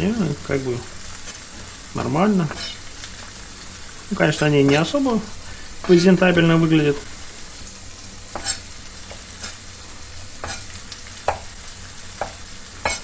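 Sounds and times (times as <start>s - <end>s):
mushrooms sizzling in a pan: 0.0s - 13.0s.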